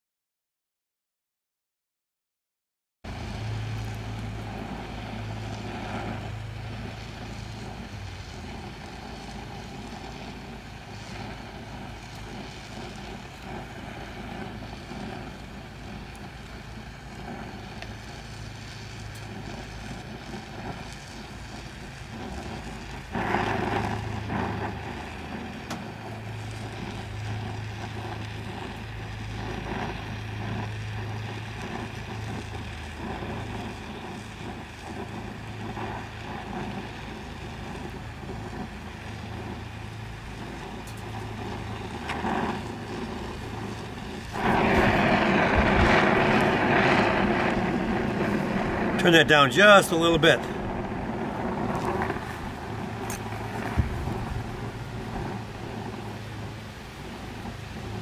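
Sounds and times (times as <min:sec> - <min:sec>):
low hum: 0:03.1 - 0:58.0
welding torch rushing: 0:03.1 - 0:58.0.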